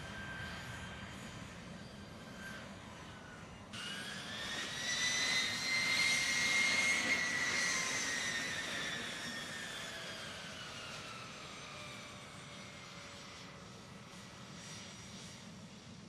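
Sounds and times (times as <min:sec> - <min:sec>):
jet engine whine: 0:00.0 - 0:16.0.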